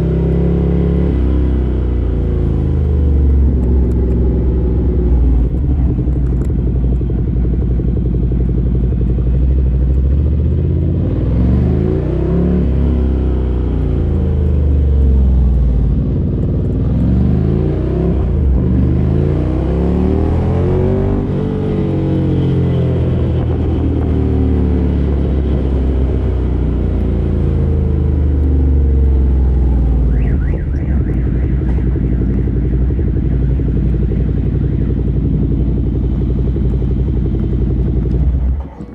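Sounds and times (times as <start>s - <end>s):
motorcycle engine revving while riding: 0.0s - 38.9s.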